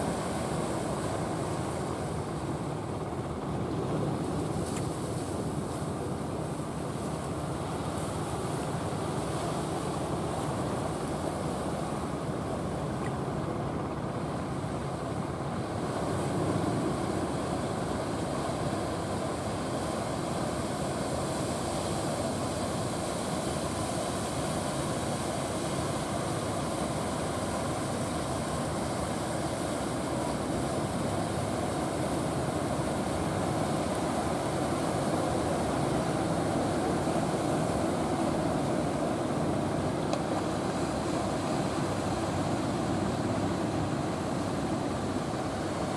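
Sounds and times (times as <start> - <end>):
boat bow wake: 0.0 - 45.9
waves and surf: 0.0 - 45.9.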